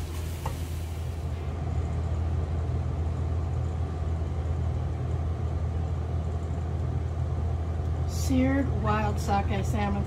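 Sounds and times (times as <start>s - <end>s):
low rumbling hum: 0.0s - 10.0s.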